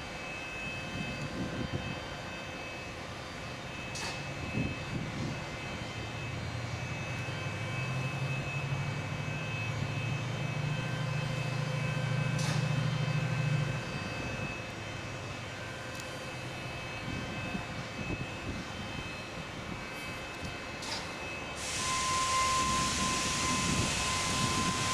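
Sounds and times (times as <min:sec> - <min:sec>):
train engine drone: 0:00.0 - 0:24.9.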